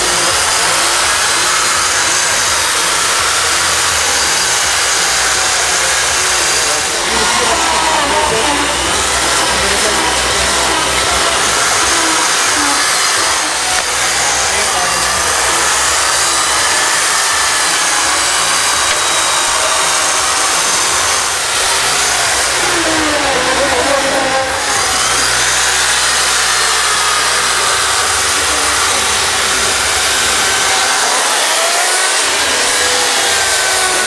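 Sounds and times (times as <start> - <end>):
electric chainsaws cutting ice: 0.0 - 34.0.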